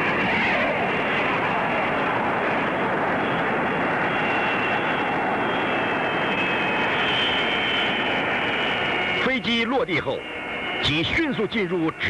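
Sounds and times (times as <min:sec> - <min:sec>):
jet engine roaring and whining: 0:00.0 - 0:12.0.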